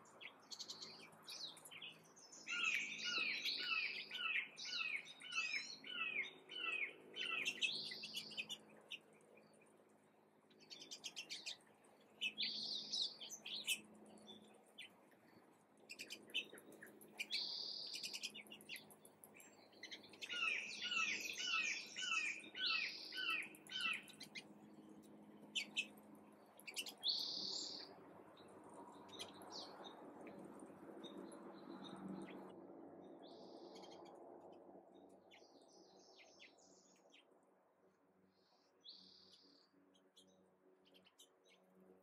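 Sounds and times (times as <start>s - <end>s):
songbirds chirping and calling: 0.0s - 34.2s, 35.0s - 37.3s, 38.3s - 42.0s.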